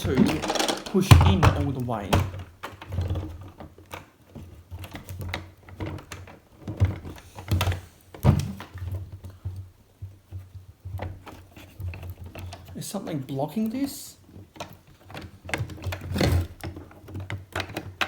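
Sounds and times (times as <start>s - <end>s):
plastic panels clicking and knocking: 0.0s - 12.8s, 13.6s - 18.0s.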